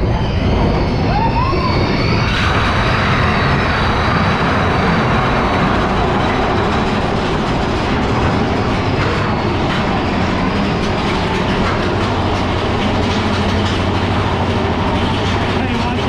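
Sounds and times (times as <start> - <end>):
roller coaster wheels rumbling on rail: 0.0 - 16.0.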